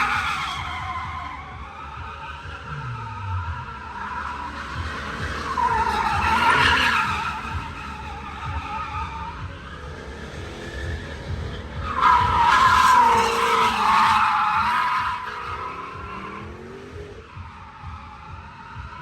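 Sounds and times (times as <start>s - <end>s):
car engine running: 0.0s - 19.0s
car tyres squealing: 0.0s - 19.0s.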